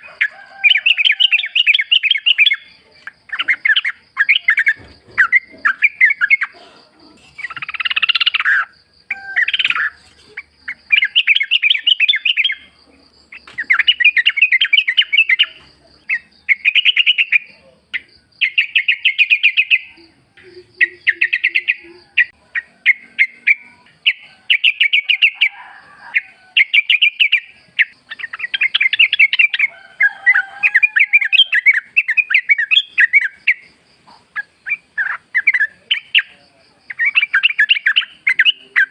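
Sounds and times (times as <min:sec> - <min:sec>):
bird singing chattering phrases: 0:00.9 - 0:25.5, 0:26.2 - 0:29.7, 0:30.8 - 0:38.9.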